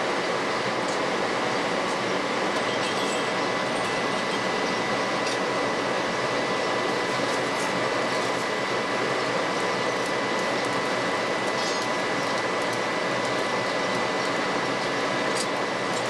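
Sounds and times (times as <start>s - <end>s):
forge air blower rushing: 0.0s - 16.0s.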